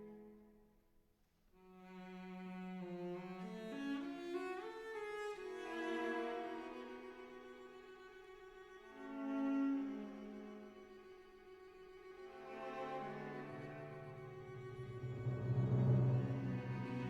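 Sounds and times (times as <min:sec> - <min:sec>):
slow bowed string melody: 0:01.7 - 0:17.0.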